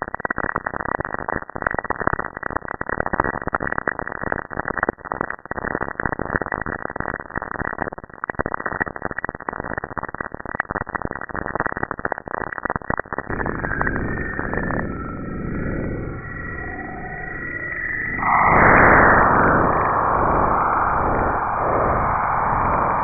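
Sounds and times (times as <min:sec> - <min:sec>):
crackling static: 0:00.0 - 0:23.0.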